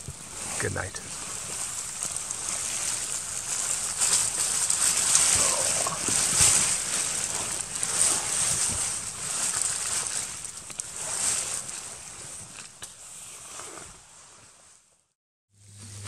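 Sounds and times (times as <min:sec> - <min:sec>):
hissing rustling noise: 0:00.0 - 0:16.0.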